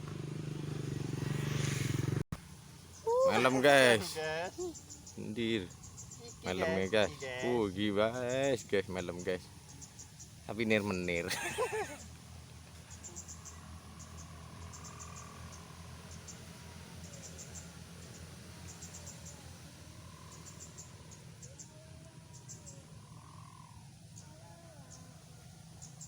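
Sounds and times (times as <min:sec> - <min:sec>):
crickets chirping: 0:00.4 - 0:26.0.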